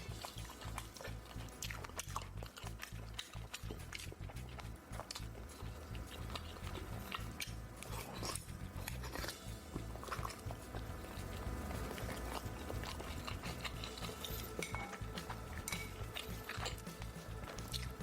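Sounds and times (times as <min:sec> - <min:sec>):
chewing: 0:00.0 - 0:18.0
utensils clicking against bowls: 0:00.0 - 0:18.0.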